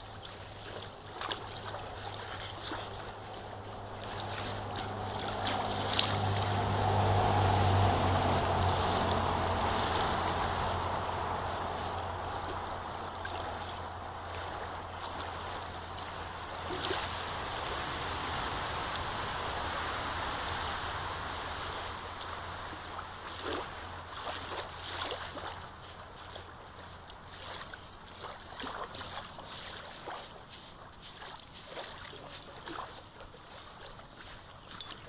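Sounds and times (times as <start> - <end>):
dog paws digging in sand: 0.1 - 19.0, 22.8 - 35.0.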